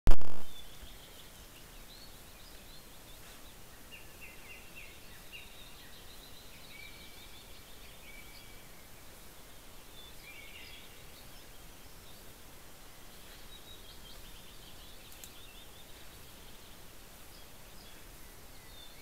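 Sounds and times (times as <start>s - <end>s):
steady hiss: 0.1s - 19.0s
songbirds singing: 0.3s - 19.0s.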